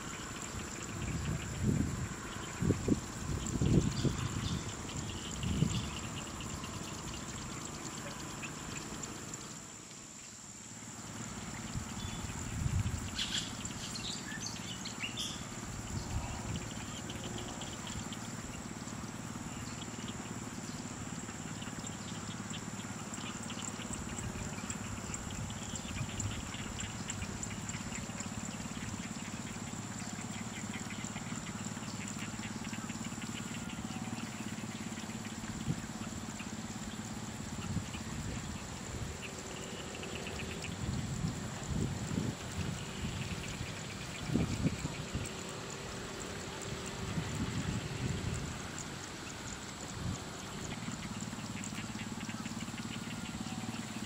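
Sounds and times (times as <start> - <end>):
faint rapid ticking: 0.0 - 54.0.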